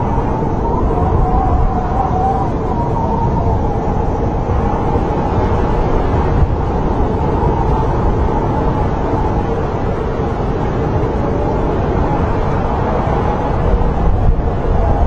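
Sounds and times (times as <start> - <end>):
wind blowing hard: 0.0 - 15.0.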